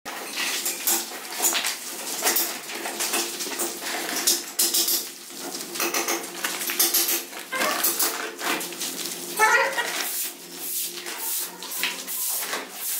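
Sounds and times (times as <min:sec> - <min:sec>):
paper sack rustling and crackling: 0:01.0 - 0:12.9.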